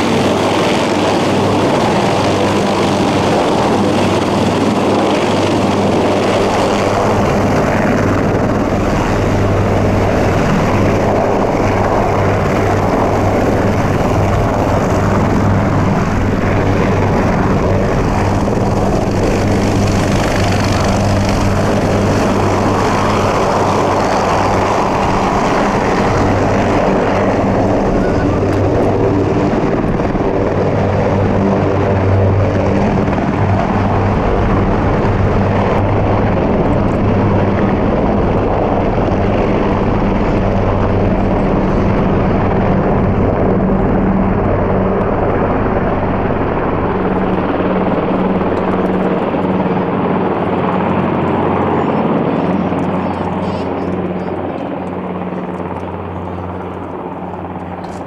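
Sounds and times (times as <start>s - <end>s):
helicopter rotor thrum: 0.0s - 58.0s.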